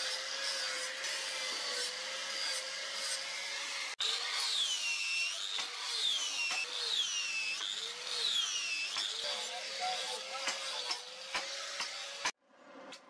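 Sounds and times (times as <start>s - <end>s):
angle grinder grinding steel: 0.0s - 12.4s.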